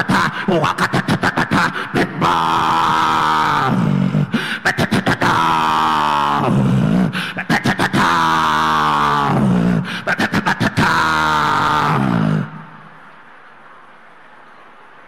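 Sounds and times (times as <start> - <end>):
man praying loudly: 0.0 - 12.7.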